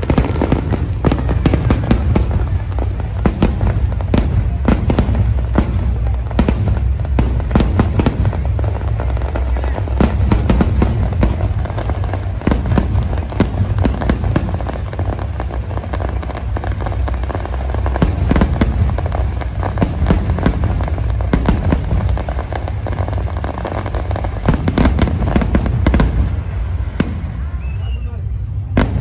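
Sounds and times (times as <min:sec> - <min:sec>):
continuous low rumble: 0:00.0 - 0:29.0
fireworks bangs and crackling bursts: 0:00.0 - 0:29.0.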